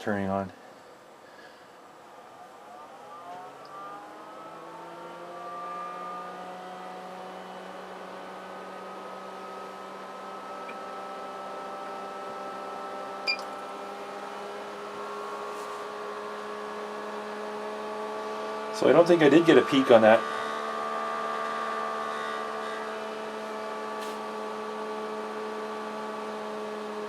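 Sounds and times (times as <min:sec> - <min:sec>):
cooling fan whirring: 0:00.0 - 0:26.2.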